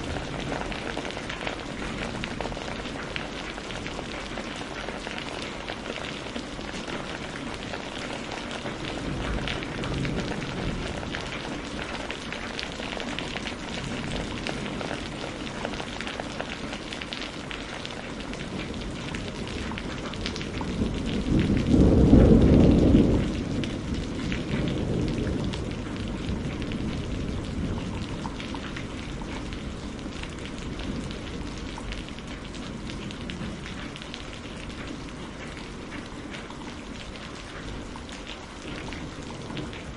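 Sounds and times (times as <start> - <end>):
steady rain falling: 0.0 - 39.9
thunder rumbling: 0.0 - 39.9.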